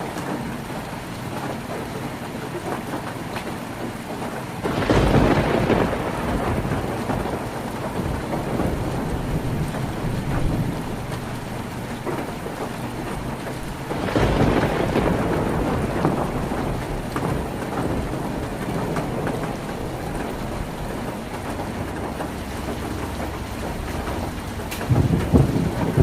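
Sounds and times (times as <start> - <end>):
heavy rain on a tin roof: 0.0 - 26.0.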